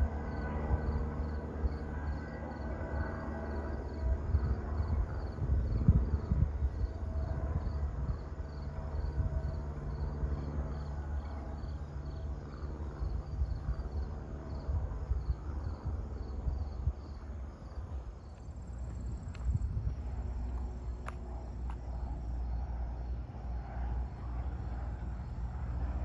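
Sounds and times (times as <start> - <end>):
jet rumbling overhead: 0.0 - 26.0
insects chirping: 0.2 - 25.9.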